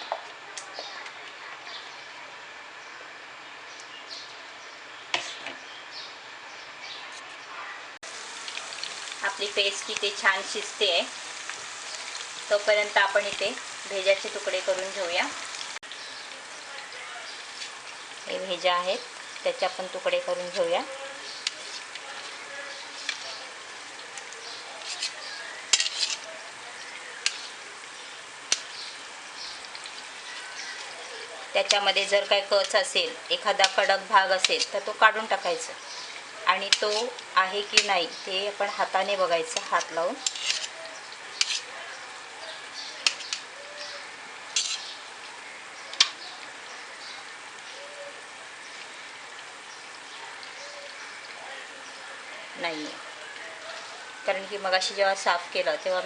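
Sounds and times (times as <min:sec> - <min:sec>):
paste sizzling in oil: 0:08.0 - 0:56.0.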